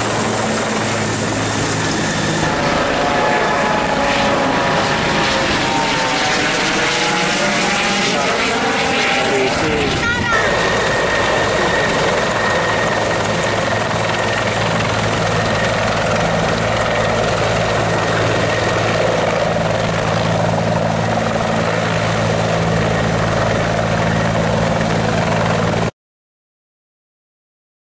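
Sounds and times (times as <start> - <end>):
helicopter rotor and engine: 0.0 - 25.9.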